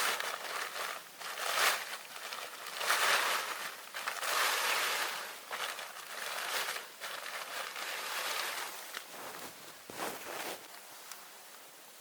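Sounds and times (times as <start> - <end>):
rustling and crunching: 0.0 - 10.8.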